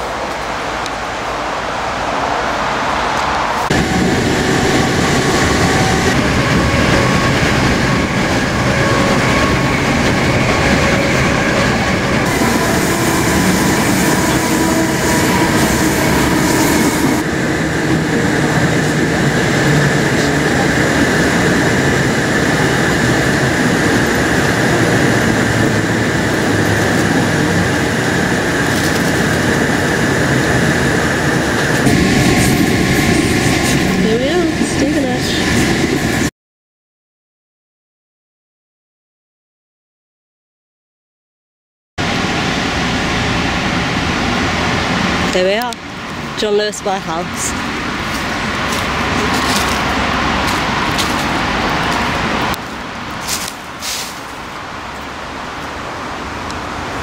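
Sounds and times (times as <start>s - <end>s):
train carriage running on rails: 0.0s - 36.3s, 42.0s - 57.0s.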